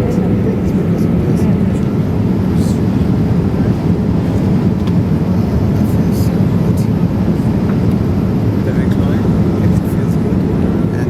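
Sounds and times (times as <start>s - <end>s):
airliner cabin engine drone: 0.0s - 11.0s
faint voices in cabin: 0.0s - 11.0s.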